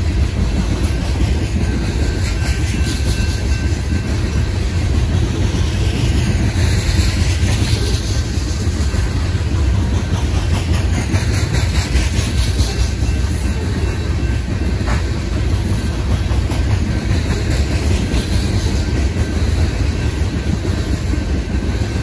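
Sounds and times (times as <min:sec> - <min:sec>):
freight train wheels rumbling on rails: 0:00.0 - 0:22.0.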